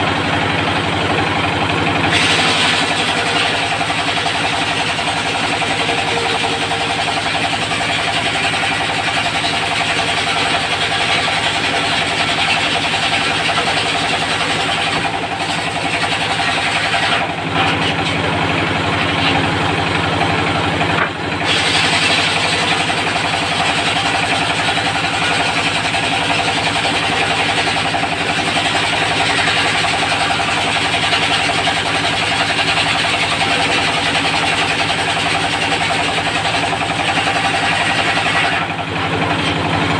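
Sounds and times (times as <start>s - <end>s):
circular saw cutting wood: 0.0s - 39.9s
diesel engine running: 0.0s - 39.9s.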